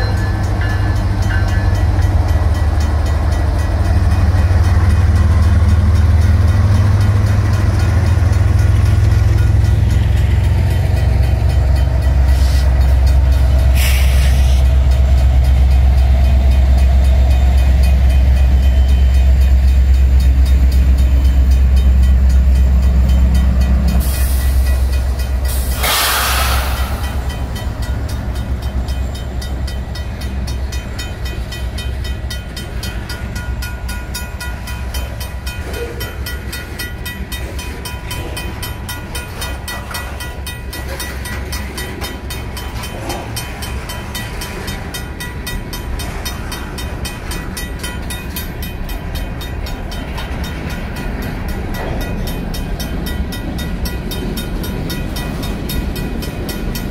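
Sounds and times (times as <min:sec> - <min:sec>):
crossing bell ringing: 0:00.0 - 0:56.9
diesel locomotives rumbling: 0:00.0 - 0:56.9
train wheels clattering on rails: 0:00.0 - 0:56.9.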